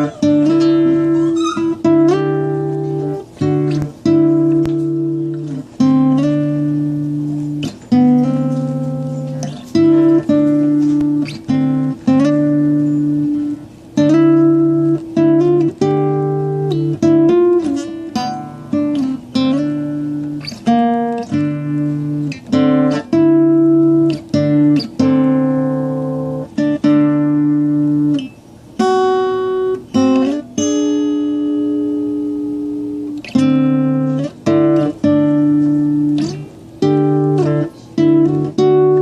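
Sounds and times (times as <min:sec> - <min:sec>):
acoustic guitar played slowly: 0:00.0 - 0:39.0.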